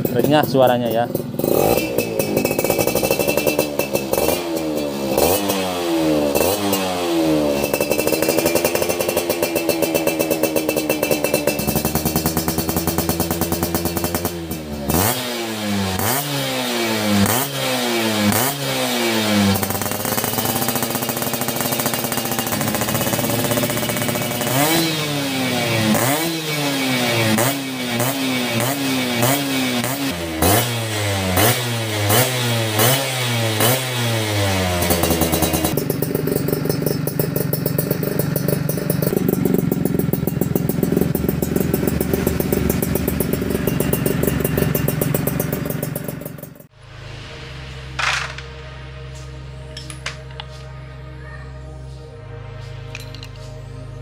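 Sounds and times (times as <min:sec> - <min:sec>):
motorcycle engine revving: 0:00.0 - 0:50.7.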